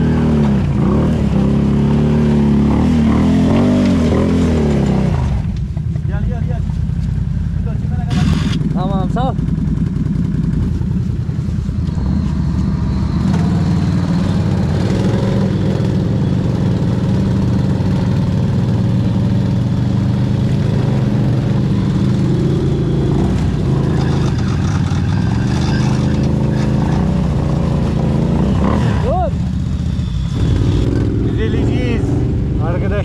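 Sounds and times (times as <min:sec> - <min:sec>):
atv engine droning: 0:00.0 - 0:33.0.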